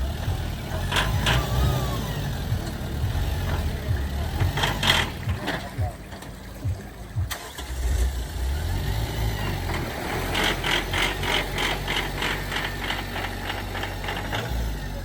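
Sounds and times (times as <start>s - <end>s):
rhythmic rattle: 0.0s - 8.3s, 9.5s - 15.0s
vehicle engine rumbling: 0.0s - 15.0s.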